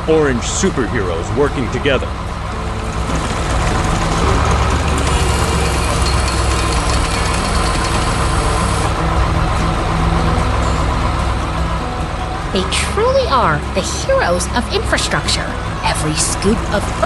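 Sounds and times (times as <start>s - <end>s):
heavy diesel engine rumbling: 0.0s - 17.0s.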